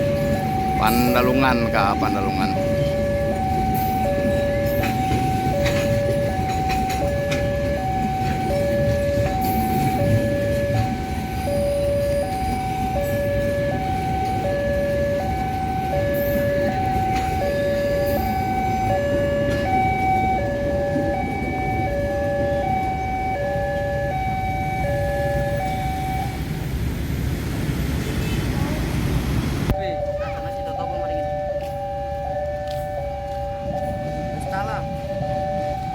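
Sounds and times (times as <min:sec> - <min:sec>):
two-tone warning siren: 0:00.0 - 0:26.7, 0:29.7 - 0:35.9.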